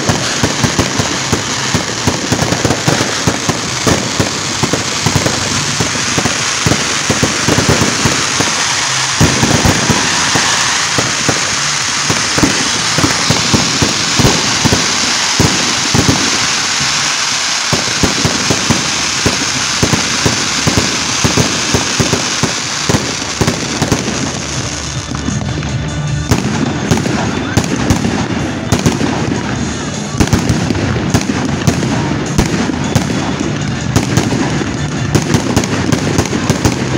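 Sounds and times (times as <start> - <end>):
fireworks bangs and pops: 0.0 - 36.9
fireworks fountains crackling: 0.0 - 36.9.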